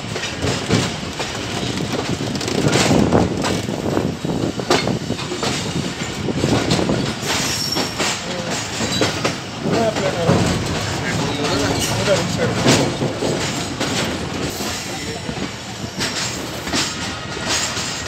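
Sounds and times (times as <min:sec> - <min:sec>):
train coach rumbling: 0:00.0 - 0:18.0
wheels clattering over rail joints: 0:00.0 - 0:18.0.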